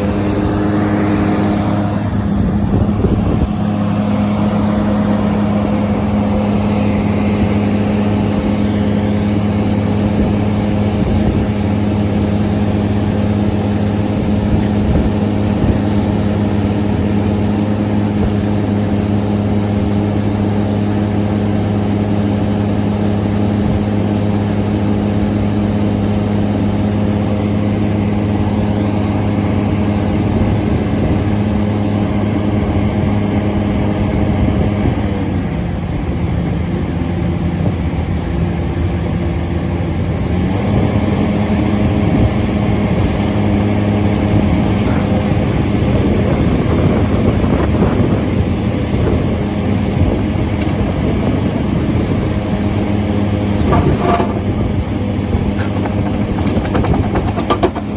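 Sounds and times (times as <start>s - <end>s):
excavator mechanical drone: 0.0s - 57.9s.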